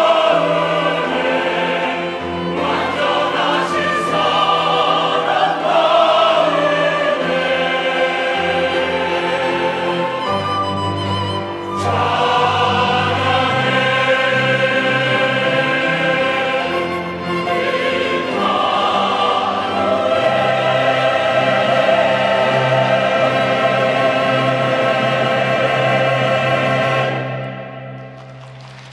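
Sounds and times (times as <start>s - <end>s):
choir singing: 0.0s - 28.2s
string orchestra: 0.0s - 28.9s.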